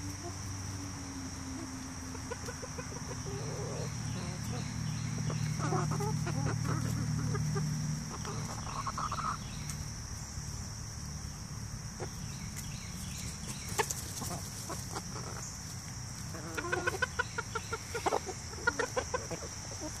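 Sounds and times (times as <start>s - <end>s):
chickens clucking: 0.0s - 10.0s, 11.8s - 20.0s.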